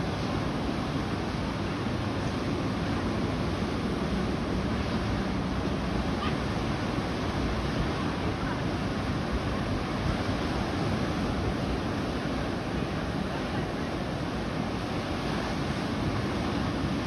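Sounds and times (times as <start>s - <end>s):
surf breaking on a beach: 0.0s - 17.0s
wind rumbling on the microphone: 0.0s - 17.0s.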